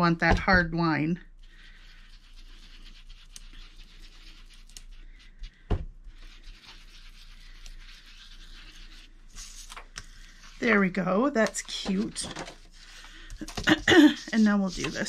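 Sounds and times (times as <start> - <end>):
foam dauber rubbing on paper: 1.4 - 15.0.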